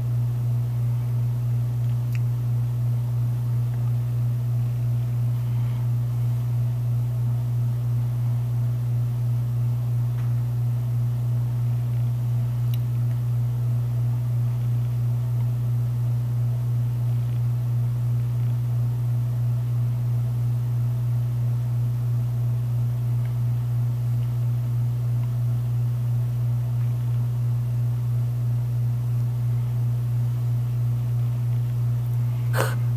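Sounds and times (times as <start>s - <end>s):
low pulsing mechanical hum: 0.0s - 32.9s.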